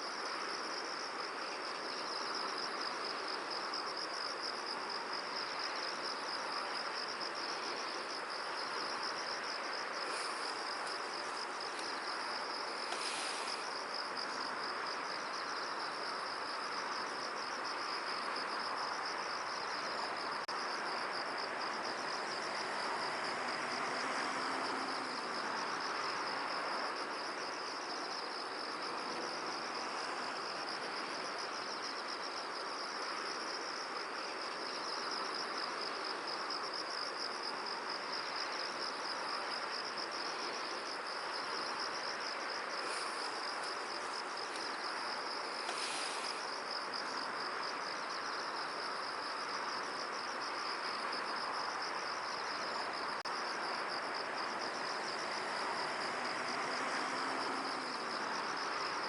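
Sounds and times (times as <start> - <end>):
wind rustling hiss: 0.0 - 59.0.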